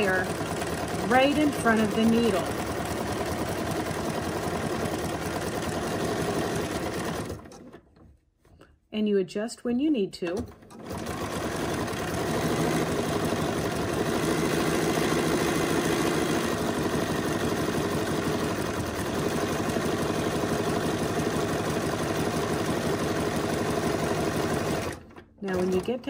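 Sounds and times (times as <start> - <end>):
sewing machine running: 0.0 - 7.8, 10.4 - 26.0.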